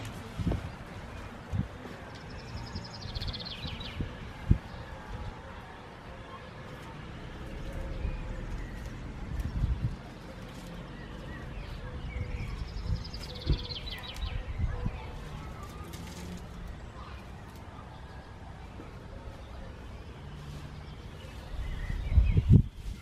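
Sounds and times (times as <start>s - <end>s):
garden birds chirping: 0.0s - 23.0s.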